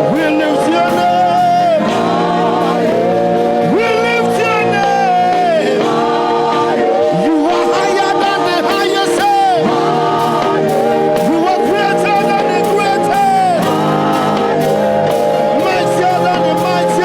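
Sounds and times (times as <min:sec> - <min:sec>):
person singing: 0:00.0 - 0:17.0
sustained instrumental chords: 0:00.0 - 0:17.0.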